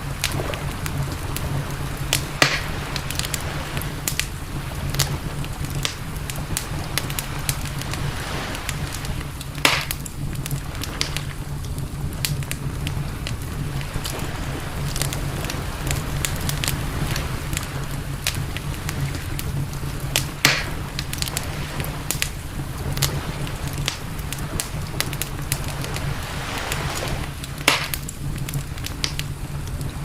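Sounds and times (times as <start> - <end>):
campfire crackling: 0.0 - 30.0
fire pops and snaps: 0.0 - 30.0
low rumble: 0.0 - 30.0.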